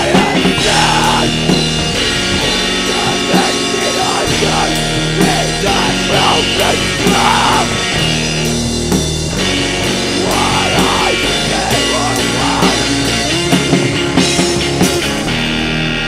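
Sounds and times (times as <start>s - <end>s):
distorted electric guitars: 0.0s - 16.0s
rock drum kit: 0.0s - 16.0s.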